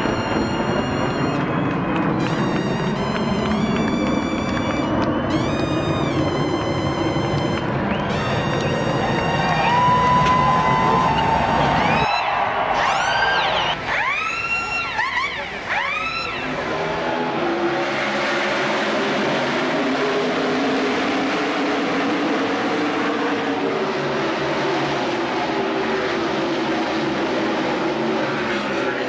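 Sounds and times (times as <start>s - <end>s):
race car engines droning: 0.0s - 29.0s
race car engines passing by: 0.0s - 29.0s.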